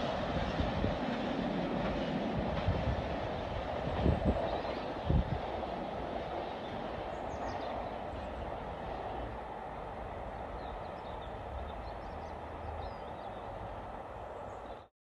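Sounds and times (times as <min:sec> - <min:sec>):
diesel freight train rumbling: 0:00.0 - 0:14.9.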